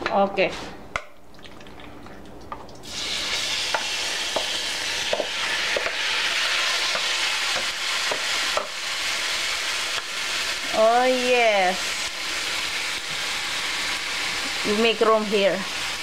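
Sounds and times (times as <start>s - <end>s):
beef strips sizzling in pan: 2.8s - 16.0s.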